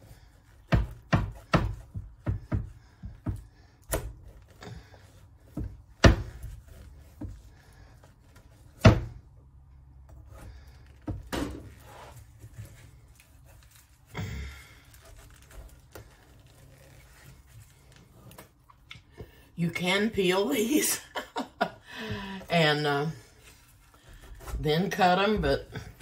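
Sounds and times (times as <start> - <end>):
knife cutting through squash: 0.0 - 9.2, 10.1 - 19.2, 23.4 - 26.0.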